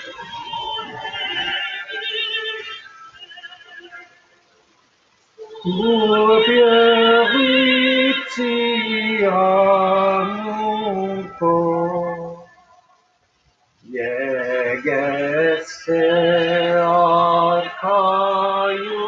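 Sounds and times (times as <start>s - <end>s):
soprano singing a slow hymn: 0.0s - 4.2s, 5.4s - 13.2s, 13.8s - 19.0s.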